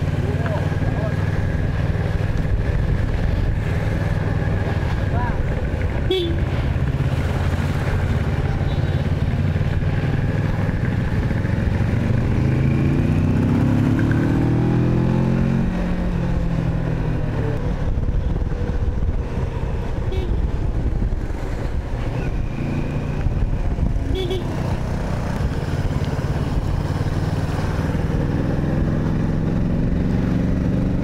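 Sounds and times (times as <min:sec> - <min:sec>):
motorcycle engine running: 0:00.0 - 0:16.6, 0:17.7 - 0:31.0.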